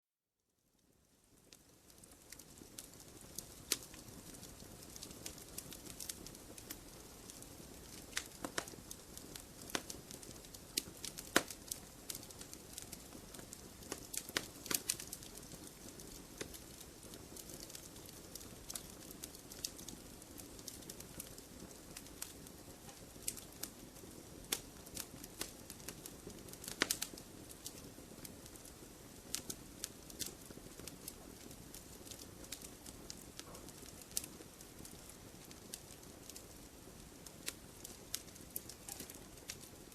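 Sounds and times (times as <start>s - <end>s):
wood fire crackling: 0.5s - 39.9s.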